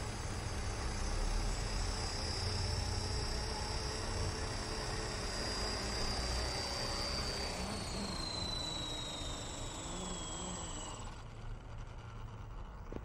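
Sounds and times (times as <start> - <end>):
model helicopter rotor whining: 0.0 - 13.0.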